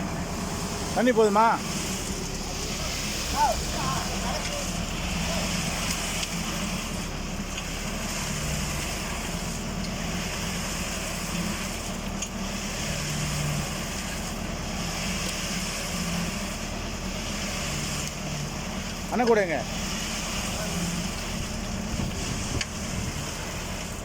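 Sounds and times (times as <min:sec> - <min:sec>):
concrete mixer drum turning: 0:00.0 - 0:24.0
tractor engine running under load: 0:00.0 - 0:24.0.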